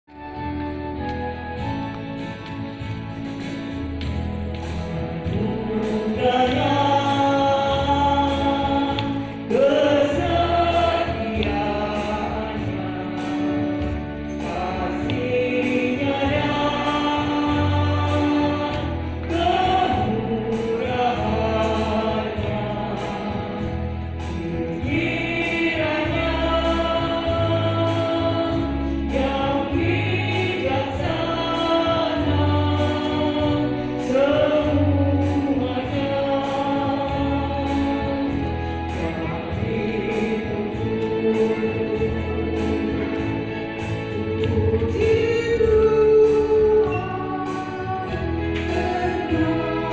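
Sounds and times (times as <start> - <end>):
women's choir singing sustained notes: 5.2 - 49.9.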